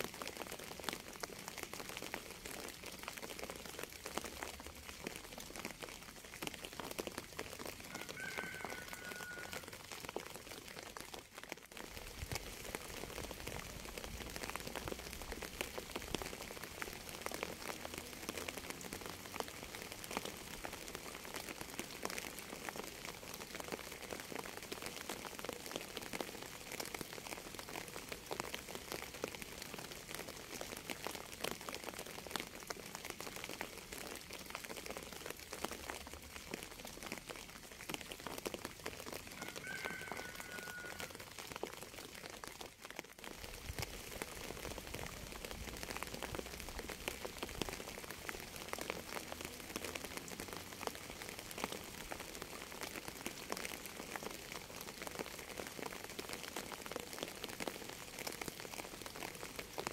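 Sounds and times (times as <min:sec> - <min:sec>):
rain drops hitting: 0:00.0 - 0:59.9.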